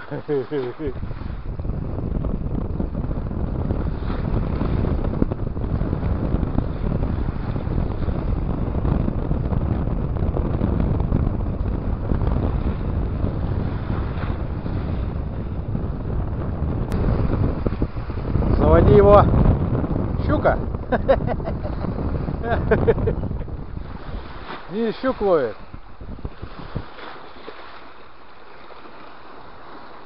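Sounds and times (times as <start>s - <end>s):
rough waves washing: 0.0s - 30.0s
storm wind buffeting microphone: 0.0s - 30.0s.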